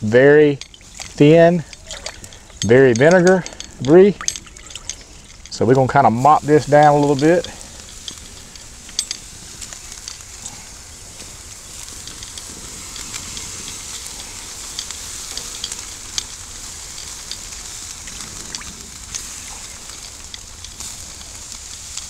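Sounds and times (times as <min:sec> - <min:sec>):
sauce sizzling on charcoal grill: 0:00.0 - 0:22.0
small sharp crackles and pops: 0:00.6 - 0:22.0.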